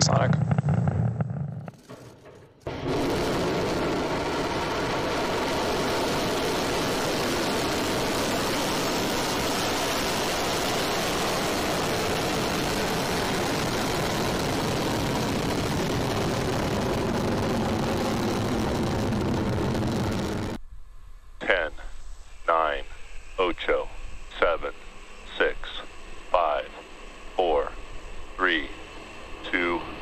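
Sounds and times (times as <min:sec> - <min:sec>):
rocket engines roaring: 0:00.0 - 0:20.6, 0:21.4 - 0:30.0.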